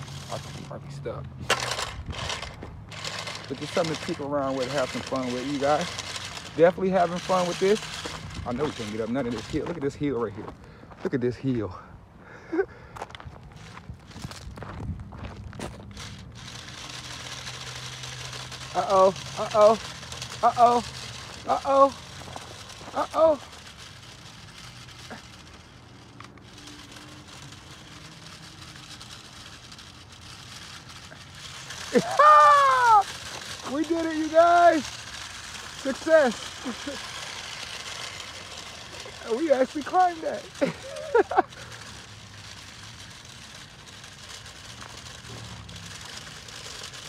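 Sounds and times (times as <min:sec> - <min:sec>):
electric motor whine: 0:00.0 - 0:10.6, 0:15.5 - 0:47.0
tires crawling on gravel: 0:00.0 - 0:11.9, 0:12.6 - 0:47.0.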